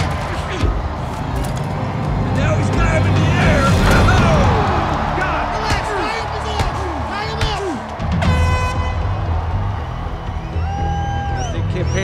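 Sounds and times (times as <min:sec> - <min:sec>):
crowd yelling and screaming: 0:00.0 - 0:12.0
film score music: 0:00.0 - 0:12.0.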